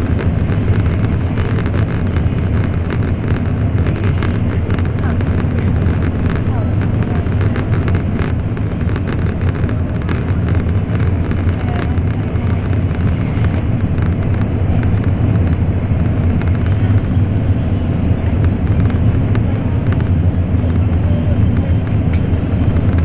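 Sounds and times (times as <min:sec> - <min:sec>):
train rumble inside cabin: 0:00.0 - 0:23.0.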